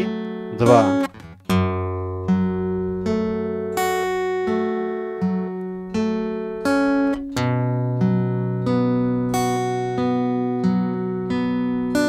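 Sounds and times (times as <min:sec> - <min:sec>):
acoustic guitar fingerpicked slowly: 0:00.0 - 0:12.0.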